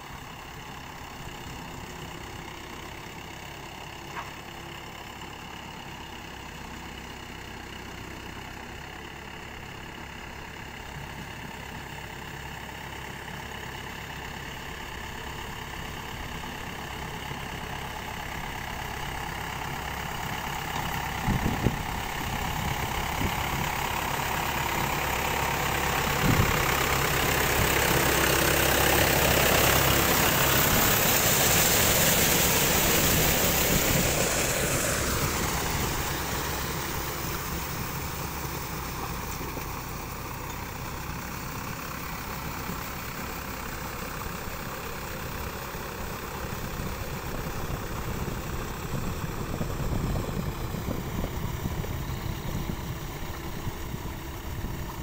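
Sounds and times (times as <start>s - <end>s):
tractor diesel engine running: 0.0s - 55.0s
churned mud and water: 1.3s - 55.0s.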